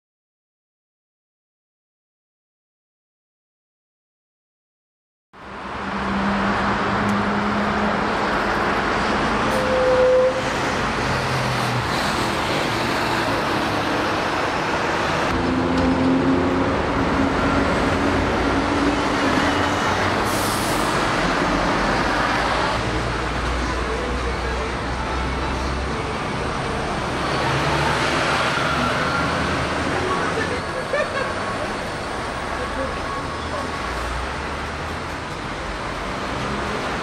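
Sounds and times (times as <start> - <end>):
road traffic noise: 5.4 - 37.0.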